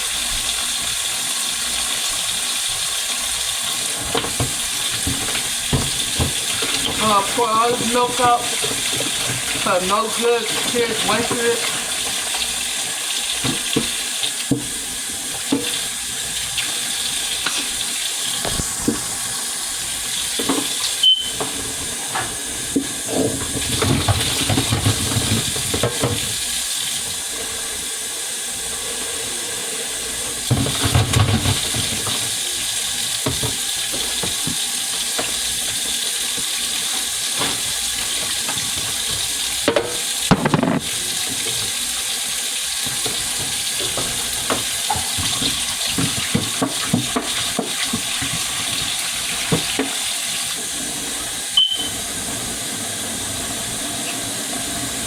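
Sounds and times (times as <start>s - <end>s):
tap running into sink: 1.9s - 19.3s, 20.2s - 27.3s, 30.3s - 50.7s
items clattering in sink: 2.0s - 27.7s, 28.7s - 55.0s.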